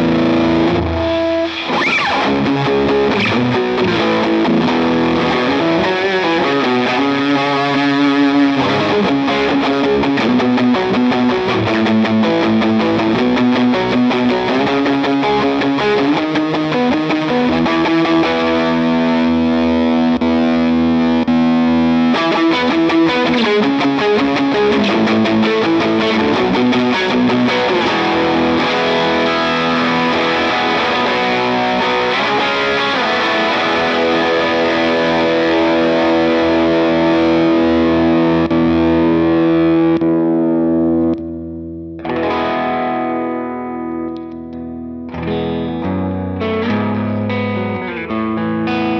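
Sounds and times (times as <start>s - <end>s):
overdriven electric guitar: 0.0s - 48.9s.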